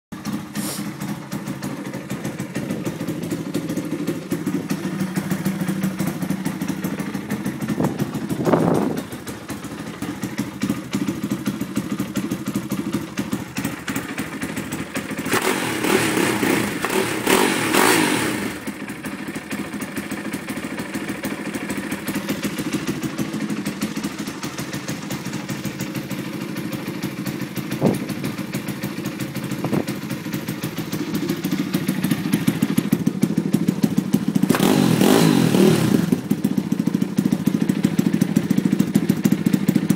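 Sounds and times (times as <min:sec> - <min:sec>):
motorbike engine idling and revving: 0:00.1 - 0:39.9.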